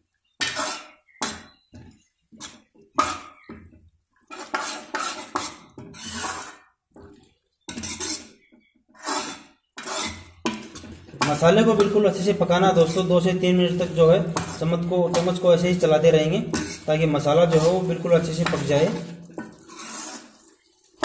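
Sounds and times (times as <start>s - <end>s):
spoon scraping metal pan: 0.4s - 21.0s.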